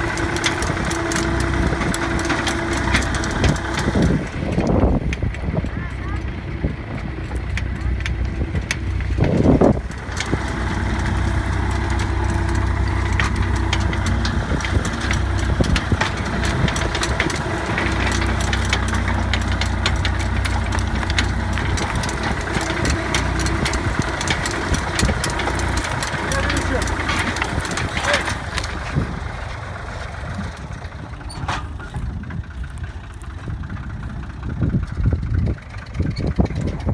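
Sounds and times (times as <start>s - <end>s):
planter clicks and rattles: 0.0s - 36.9s
tractor engine running: 0.0s - 36.9s.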